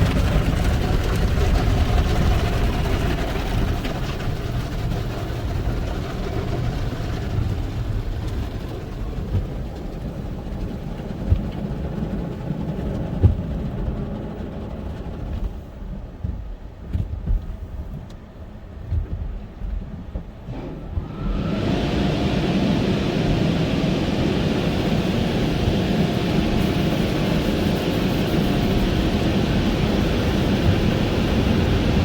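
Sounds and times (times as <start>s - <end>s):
car wash rumble: 0.0s - 32.0s.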